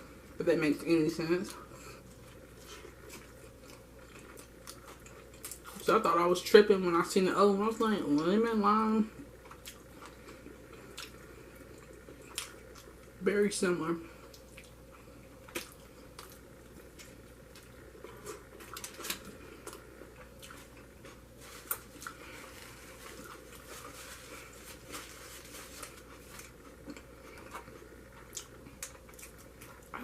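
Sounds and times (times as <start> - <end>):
person chewing food: 1.5 - 5.8, 9.2 - 13.2, 14.2 - 30.0.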